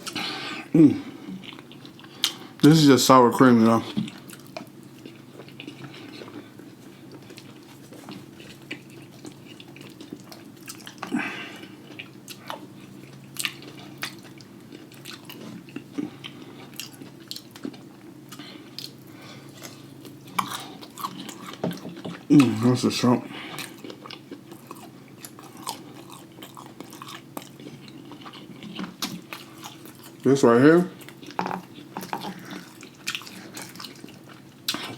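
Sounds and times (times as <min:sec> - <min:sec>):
low steady hum: 0:00.0 - 0:34.9
chewing and mouth smacking: 0:01.1 - 0:02.4, 0:03.9 - 0:22.6, 0:23.4 - 0:30.3, 0:30.9 - 0:34.9.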